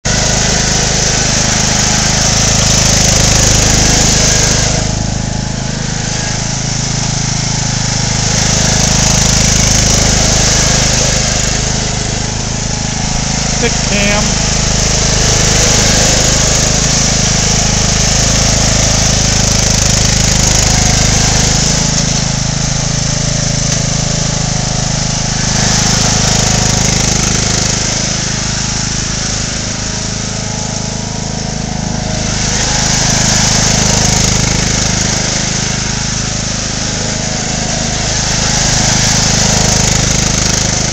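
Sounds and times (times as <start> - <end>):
riding lawn mower engine running: 0.0 - 40.9.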